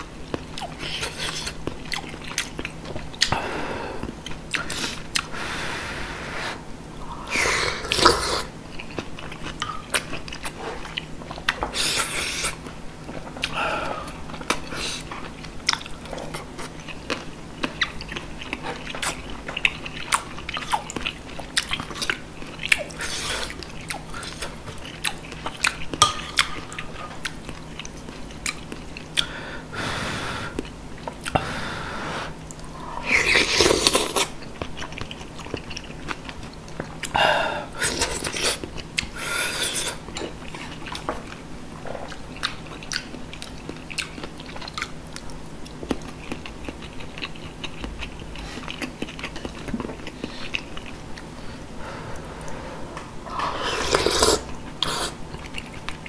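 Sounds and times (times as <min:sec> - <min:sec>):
person chewing food: 0:00.2 - 0:29.4, 0:30.3 - 0:56.0.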